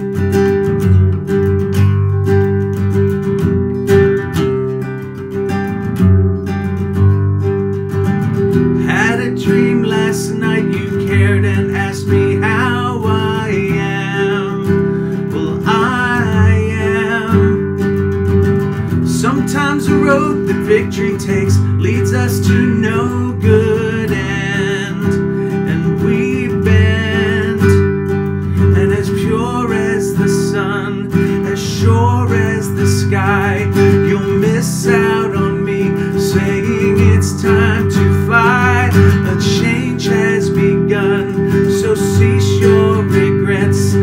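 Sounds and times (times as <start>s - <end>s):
strummed acoustic guitar: 0.0s - 44.0s
man singing: 8.7s - 44.0s.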